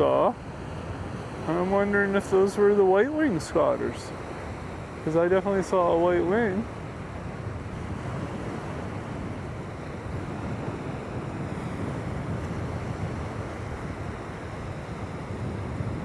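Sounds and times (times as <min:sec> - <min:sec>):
surf at the shoreline: 0:00.0 - 0:16.0
wind buffeting the microphone: 0:00.0 - 0:16.0.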